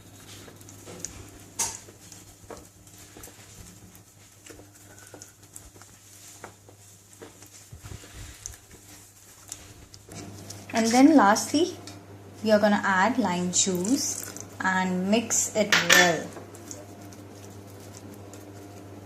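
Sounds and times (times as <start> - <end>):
utensil stirring thick batter: 0.0 - 11.7, 12.4 - 19.0.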